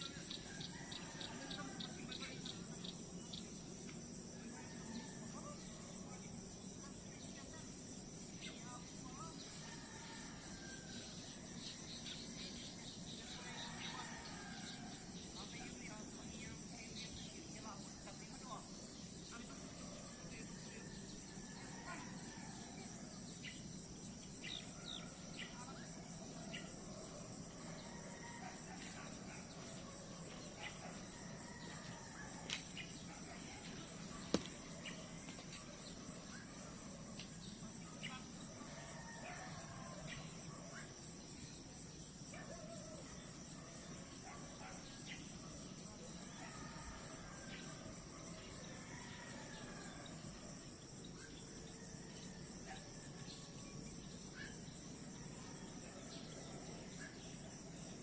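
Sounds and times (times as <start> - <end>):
crickets chorus: 0.0 - 58.0.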